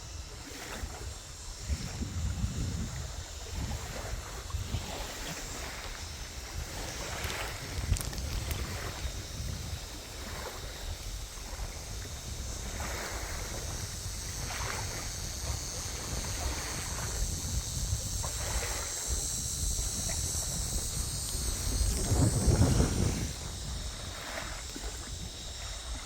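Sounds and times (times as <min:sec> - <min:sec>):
insect chorus: 0:00.0 - 0:26.0
water lapping: 0:00.0 - 0:26.0
wind buffeting microphone: 0:00.0 - 0:26.0.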